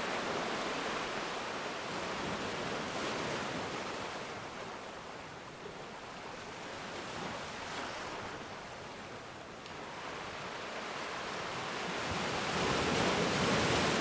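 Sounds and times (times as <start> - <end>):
ocean waves on shore: 0.0 - 14.0.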